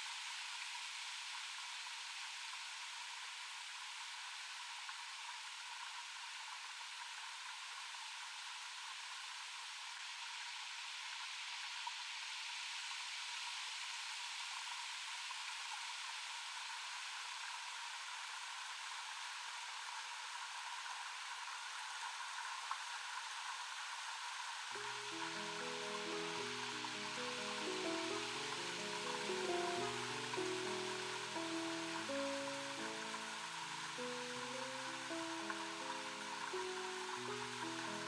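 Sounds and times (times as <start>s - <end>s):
steady even hiss: 0.0s - 38.0s.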